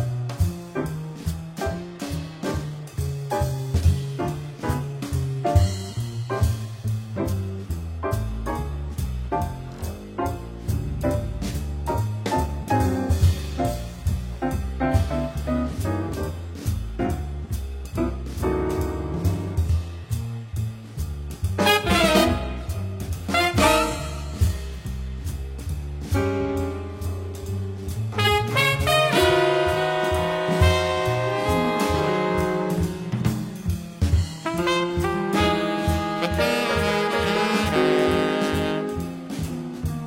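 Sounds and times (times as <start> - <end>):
instrumental jazz with horn: 0.0 - 40.0.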